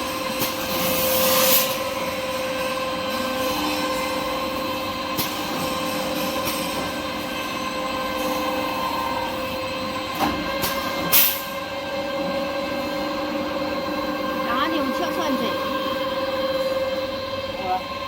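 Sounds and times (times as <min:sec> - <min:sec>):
machinery whining: 0:00.0 - 0:18.0.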